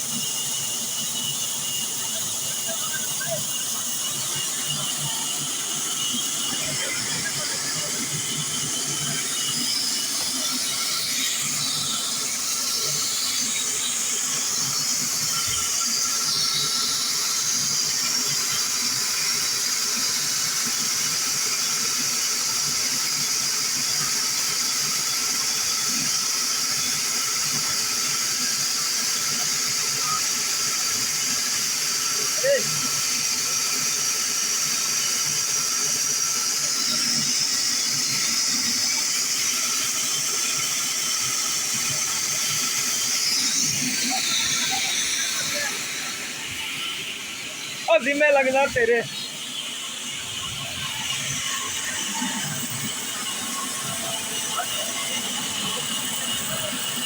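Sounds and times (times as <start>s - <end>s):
wood-cutting machine squealing: 0.0s - 57.0s.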